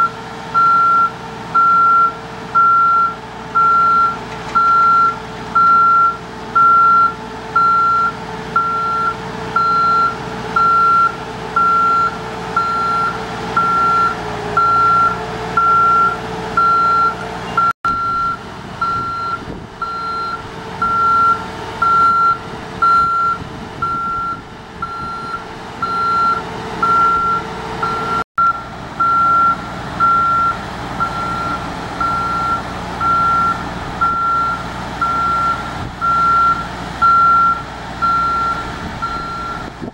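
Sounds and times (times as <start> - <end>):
engine and hydraulics running: 0.0 - 39.9.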